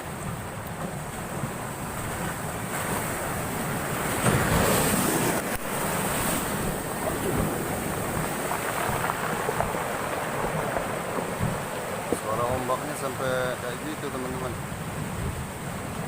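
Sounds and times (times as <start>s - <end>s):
storm surf pounding shore: 0.0s - 16.0s
wave breaking: 0.0s - 16.0s
wind buffeting microphone: 0.0s - 16.0s.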